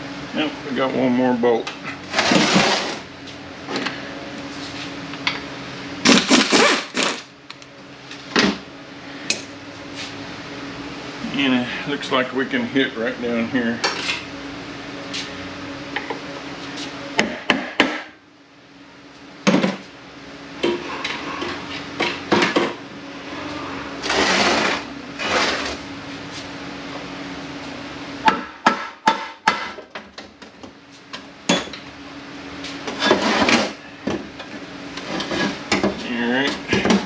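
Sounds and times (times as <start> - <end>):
low shop hum: 0.0 - 37.0.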